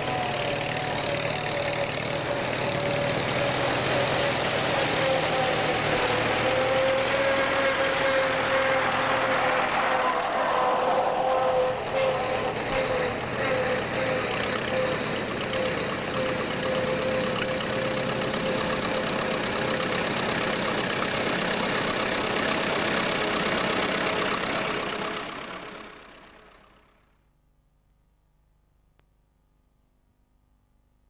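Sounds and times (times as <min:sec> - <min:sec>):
tractor engines running: 0:00.0 - 0:27.2.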